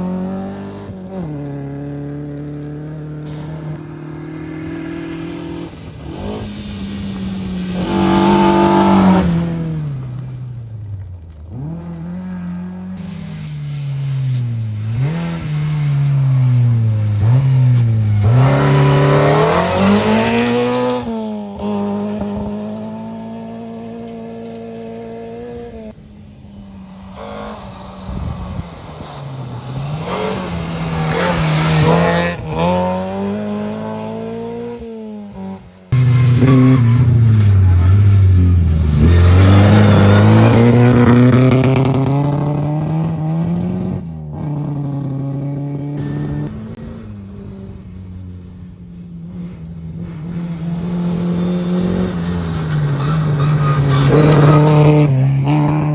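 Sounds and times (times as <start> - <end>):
rally cars passing at full throttle: 0.0 - 55.9.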